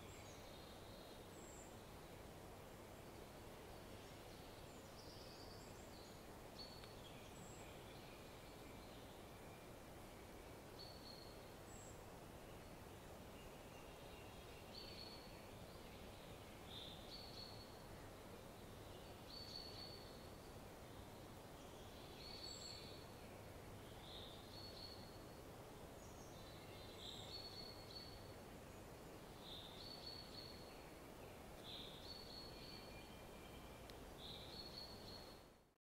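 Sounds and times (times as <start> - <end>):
distant small bird singing: 0.0 - 35.6.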